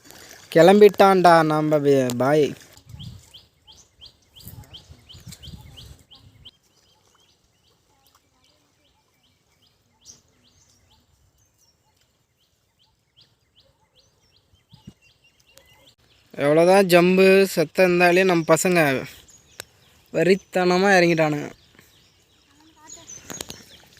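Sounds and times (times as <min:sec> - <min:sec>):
faint bird chirping: 0:02.7 - 0:23.9.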